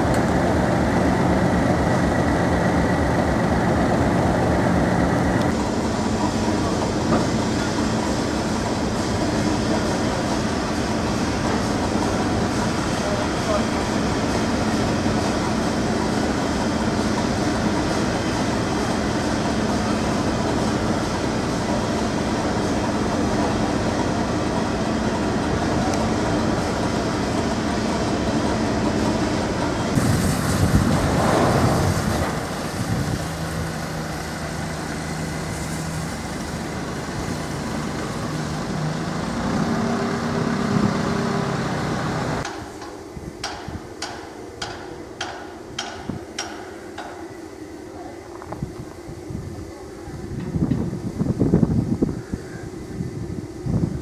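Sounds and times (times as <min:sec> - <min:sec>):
loud rush of steam: 0:00.0 - 0:54.0
steam locomotive hissing and rumbling: 0:00.0 - 0:54.0.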